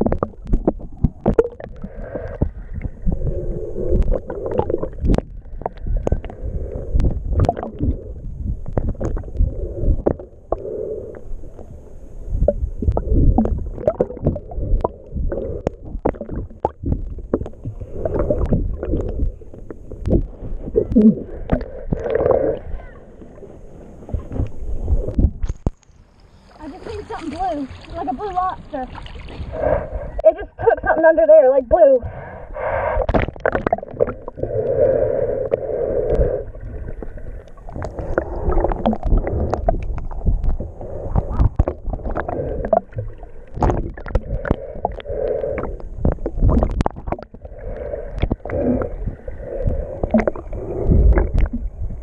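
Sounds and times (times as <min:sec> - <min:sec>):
dull underwater rumbling: 0:00.0 - 0:52.0
water movement: 0:00.0 - 0:52.0.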